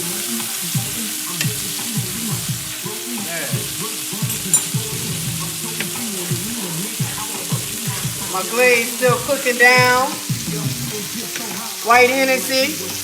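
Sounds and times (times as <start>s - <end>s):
chicken sizzling in a pan: 0.0s - 13.0s
song playing quietly: 0.0s - 13.0s.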